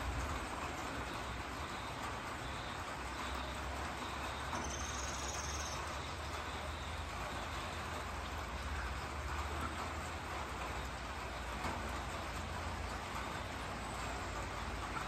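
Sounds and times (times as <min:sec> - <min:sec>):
rain falling over trees: 0:00.0 - 0:15.0.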